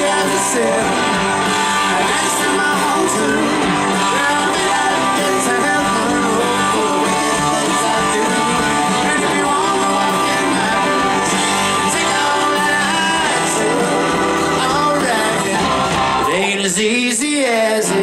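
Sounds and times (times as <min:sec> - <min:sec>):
electric guitar: 0:00.0 - 0:18.0
live rock band playing: 0:00.0 - 0:18.0.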